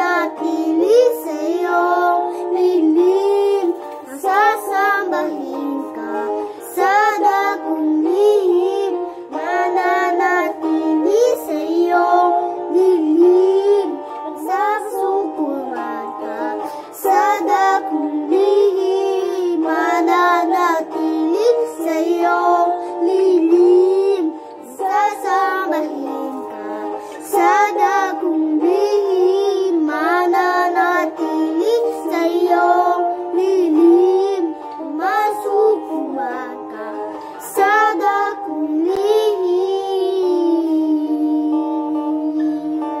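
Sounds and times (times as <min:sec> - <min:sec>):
girl singing: 0:00.0 - 0:43.0
instrumental accompaniment: 0:00.0 - 0:43.0.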